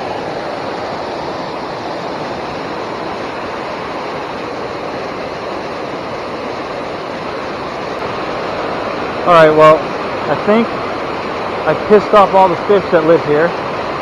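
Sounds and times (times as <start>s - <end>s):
water rushing over a dam: 0.0s - 14.0s.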